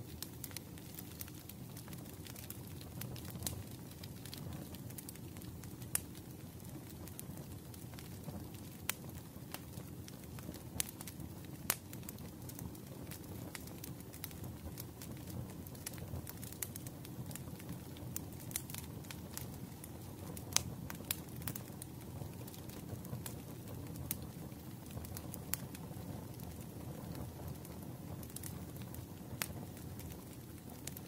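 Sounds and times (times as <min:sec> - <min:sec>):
wood fire crackling: 0:00.0 - 0:31.0
wood fire rumble: 0:00.0 - 0:31.0
fire pops: 0:00.1 - 0:31.0.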